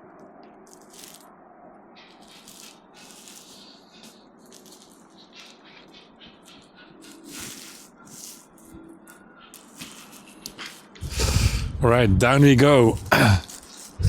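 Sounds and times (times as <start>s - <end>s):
outdoor hiss: 0.0s - 8.8s, 9.6s - 14.0s
rustling handling noise: 0.1s - 1.4s, 2.0s - 14.0s.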